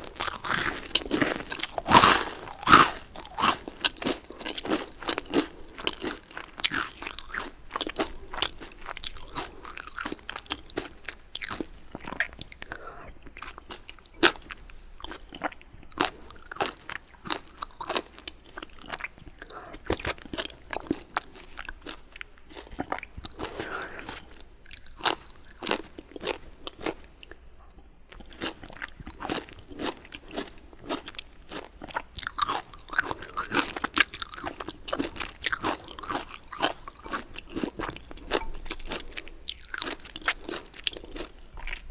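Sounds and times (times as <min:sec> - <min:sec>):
crunchy bites and chewing: 0:00.0 - 0:27.4, 0:28.2 - 0:41.9.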